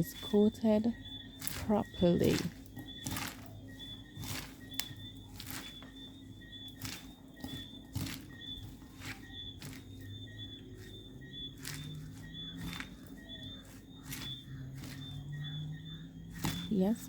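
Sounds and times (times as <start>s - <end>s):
utensils clicking against a bowl: 0.0s - 17.0s.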